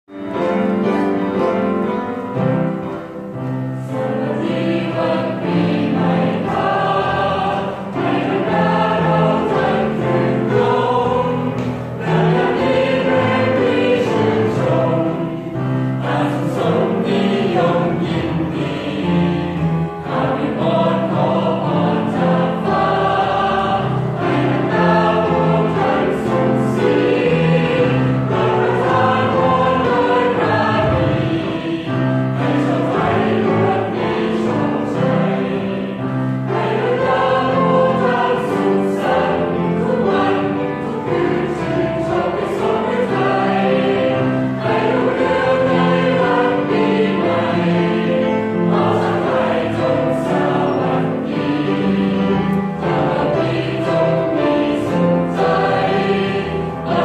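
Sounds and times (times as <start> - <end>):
choir singing sustained phrases: 0.1 - 57.0.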